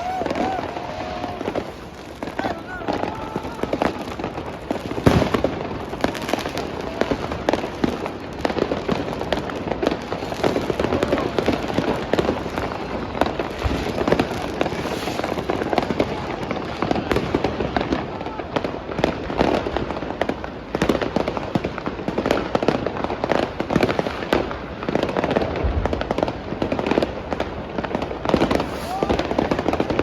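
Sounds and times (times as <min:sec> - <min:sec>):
fireworks and firecrackers banging: 0:00.0 - 0:30.0.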